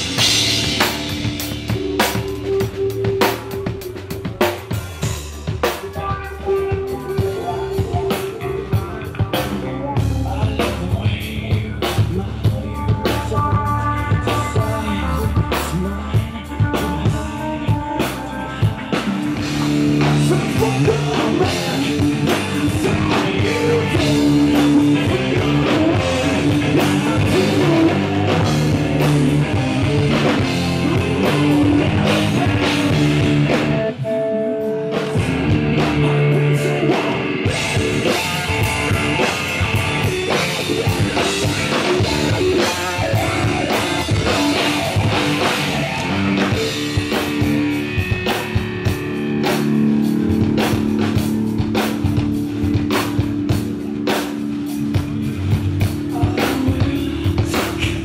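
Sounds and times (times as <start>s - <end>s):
person singing: 0.0s - 49.6s, 55.8s - 58.0s
bass guitar: 0.0s - 58.0s
drum kit: 0.0s - 58.0s
electric guitar: 0.0s - 58.0s.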